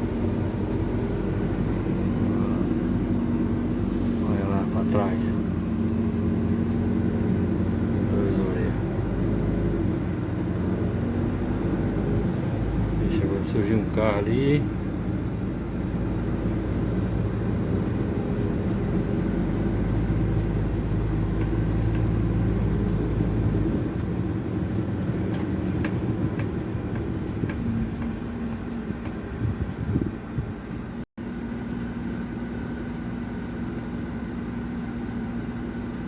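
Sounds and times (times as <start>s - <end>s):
truck diesel engine: 0.0s - 36.0s.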